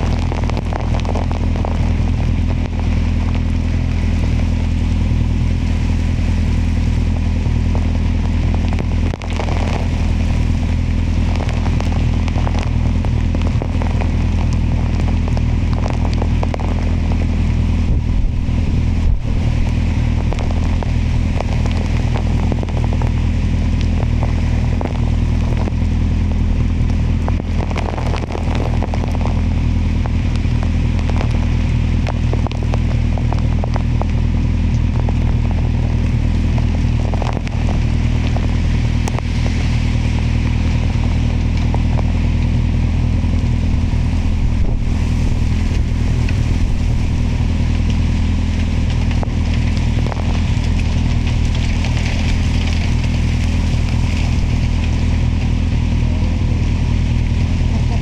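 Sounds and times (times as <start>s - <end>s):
motorcycle engine cruising: 0.0s - 58.0s
rain ticking on microphone: 0.0s - 58.0s.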